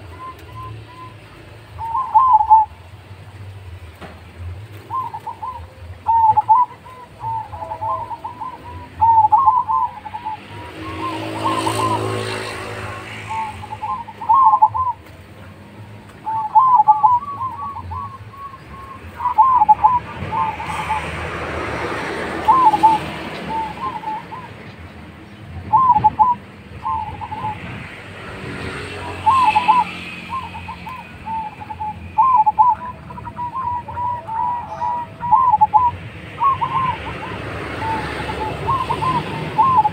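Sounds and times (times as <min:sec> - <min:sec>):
dove cooing: 0:00.0 - 0:03.0, 0:04.7 - 0:39.9
passing road traffic: 0:00.0 - 0:39.9.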